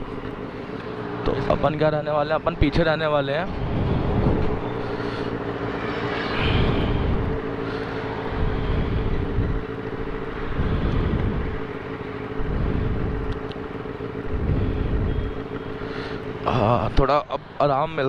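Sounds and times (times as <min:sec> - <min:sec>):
motorcycle engine cruising: 0:00.0 - 0:18.0
wind buffeting microphone: 0:02.4 - 0:17.0.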